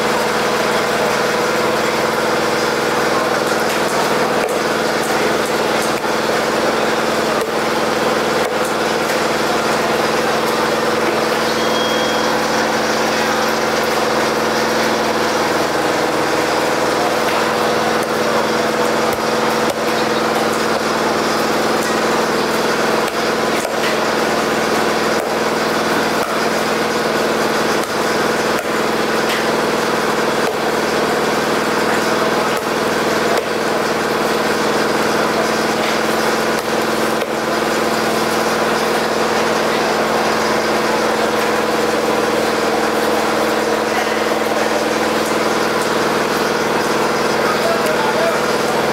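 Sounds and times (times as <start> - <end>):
motor hum: 0.0 - 48.9.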